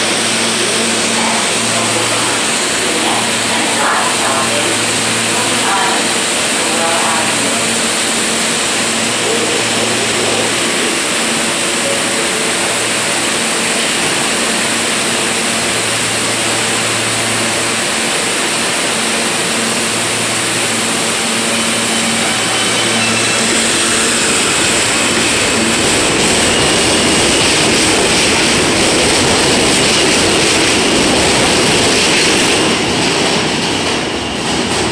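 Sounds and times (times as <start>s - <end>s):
subway train equipment rushing noise: 0.0s - 34.9s.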